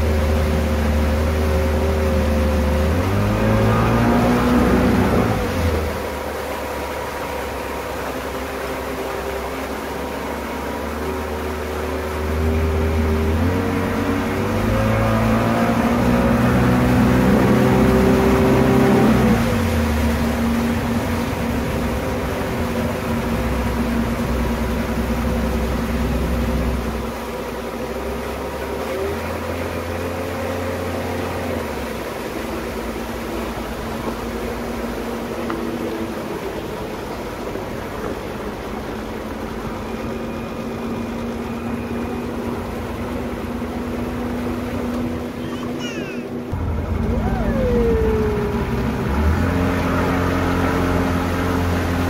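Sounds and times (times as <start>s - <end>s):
outboard motor running: 0.0s - 52.0s
wind and water rushing: 0.0s - 52.0s.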